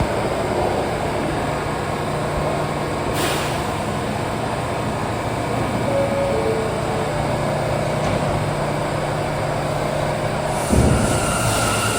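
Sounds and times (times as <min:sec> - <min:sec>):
subway train low hum: 0:00.0 - 0:11.9.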